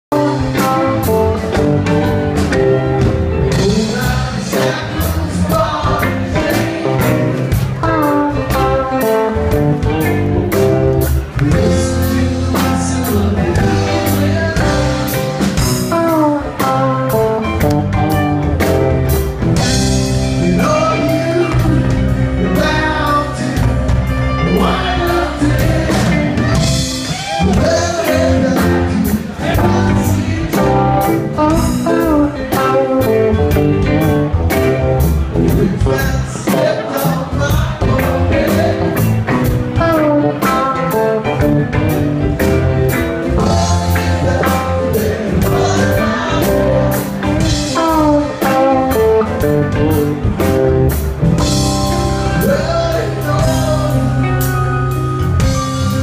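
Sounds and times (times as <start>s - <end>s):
electric guitars: 0.1s - 56.0s
live rock band playing: 0.1s - 56.0s
steady drum beat: 0.2s - 56.0s.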